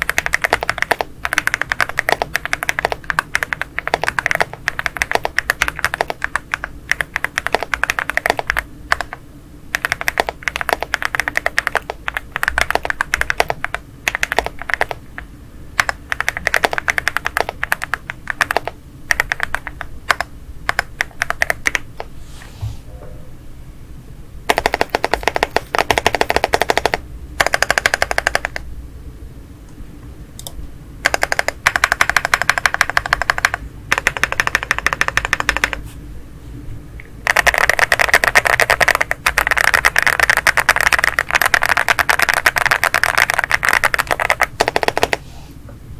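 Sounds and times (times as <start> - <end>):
mechanical keyboard typing: 0.0 - 22.1, 24.5 - 28.6, 30.4 - 35.8, 37.2 - 45.2.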